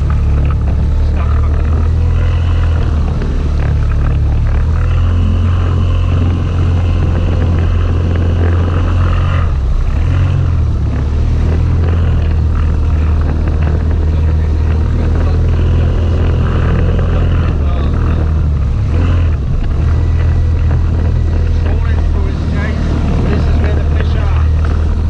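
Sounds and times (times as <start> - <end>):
choppy water: 0.0 - 25.0
outboard motor running: 0.0 - 25.0
wind rushing: 0.0 - 25.0.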